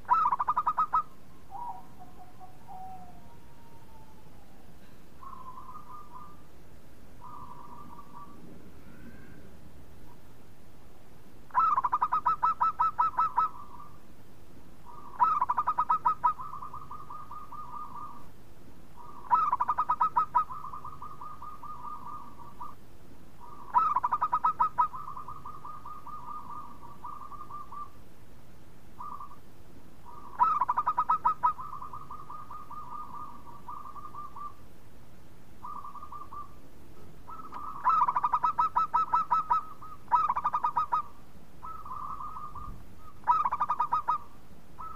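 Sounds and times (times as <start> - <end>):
dove cooing: 0.0 - 6.5, 7.2 - 9.6, 11.5 - 14.0, 14.8 - 18.3, 19.0 - 22.8, 23.4 - 28.0, 29.0 - 29.4, 30.0 - 34.7, 35.6 - 44.9.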